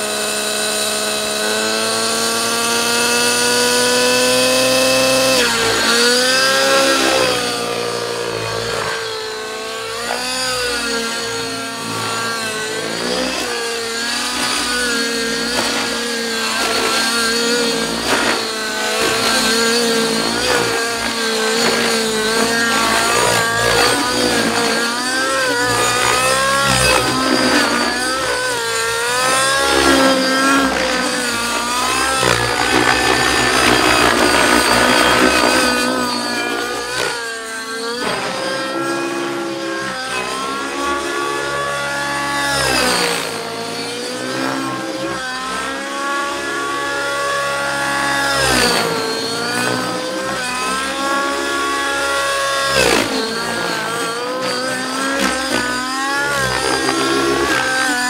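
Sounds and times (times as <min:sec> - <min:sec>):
model helicopter engine: 0:00.0 - 0:58.0.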